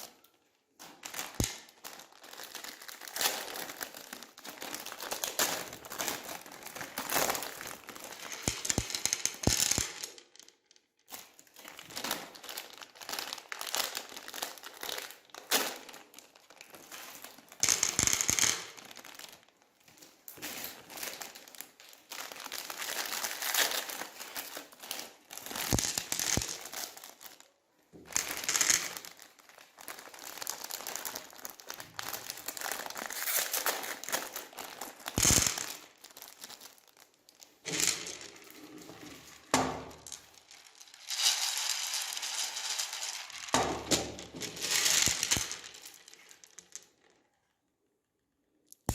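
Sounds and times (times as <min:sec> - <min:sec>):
plastic wrappers crinkling: 0:00.0 - 0:47.2.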